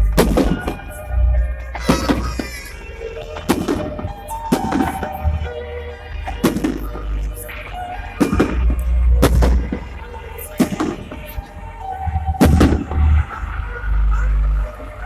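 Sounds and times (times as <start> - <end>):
fireworks bangs: 0.1 - 1.0, 1.7 - 5.6, 6.2 - 15.0.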